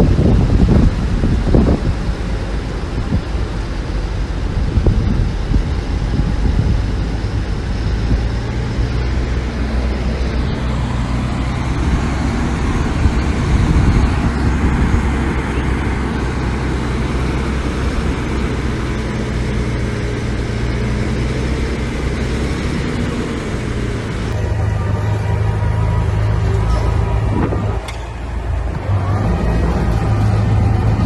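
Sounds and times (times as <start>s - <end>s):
diesel engine droning under load: 0.0s - 31.0s.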